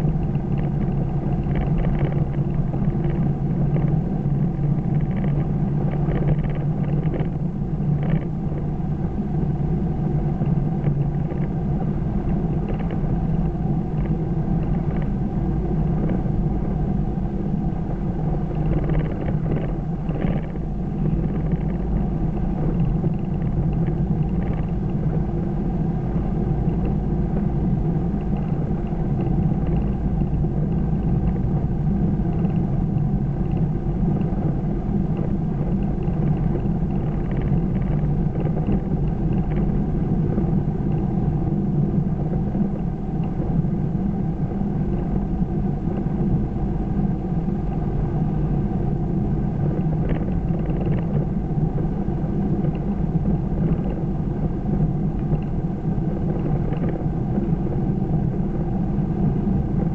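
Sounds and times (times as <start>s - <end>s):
car cabin road and engine rumble: 0.0s - 59.9s.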